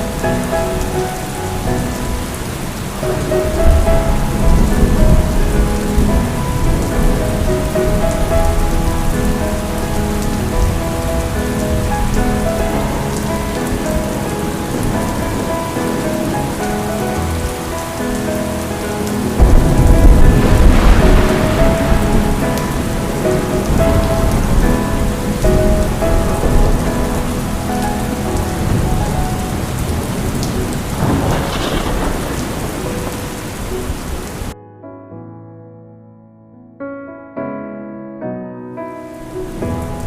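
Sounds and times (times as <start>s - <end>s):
steady rain falling: 0.0s - 34.6s, 39.1s - 40.0s
soft melodic music: 0.0s - 40.0s
low rumble of thunder: 0.2s - 34.6s.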